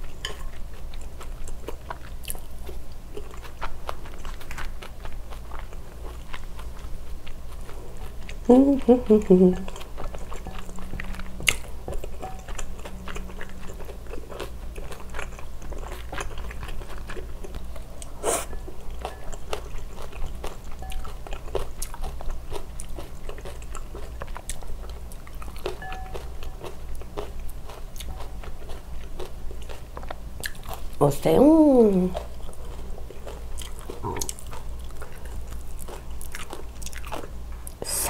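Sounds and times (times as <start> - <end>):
close chewing of food: 0.0 - 37.8.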